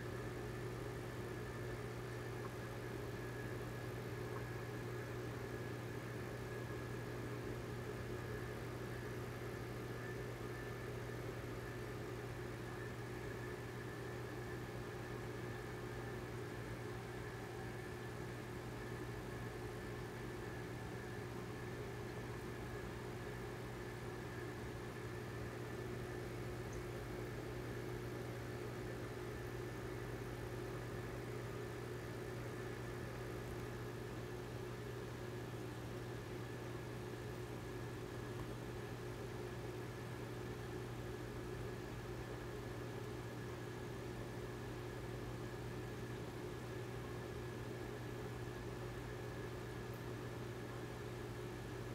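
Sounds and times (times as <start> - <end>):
aquarium pump humming: 0.0 - 51.9.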